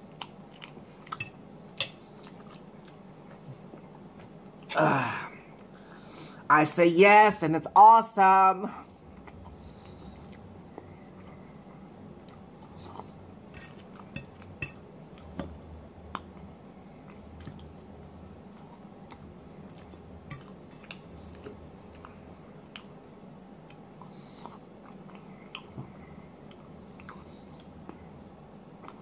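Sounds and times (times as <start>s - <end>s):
person chewing food: 0.0s - 4.7s, 8.8s - 29.0s.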